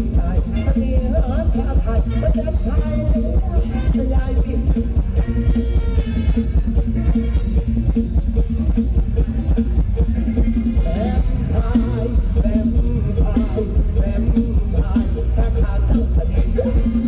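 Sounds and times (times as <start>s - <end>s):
drum kit beat: 0.0s - 17.0s
repeating bass line: 0.0s - 17.0s.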